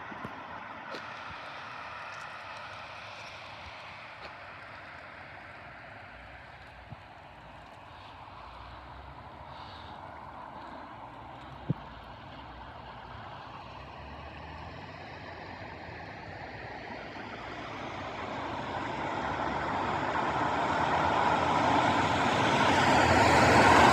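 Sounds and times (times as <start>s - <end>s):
vehicle tyre and engine noise: 0.0s - 23.9s.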